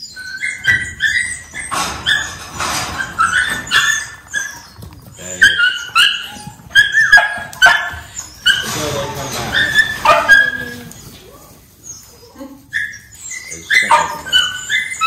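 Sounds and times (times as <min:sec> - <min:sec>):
puppies barking and yipping: 0:00.0 - 0:15.0.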